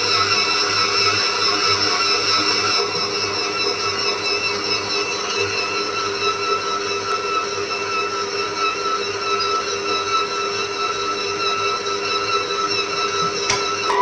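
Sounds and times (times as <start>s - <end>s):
stand mixer motor running: 0.0s - 14.0s.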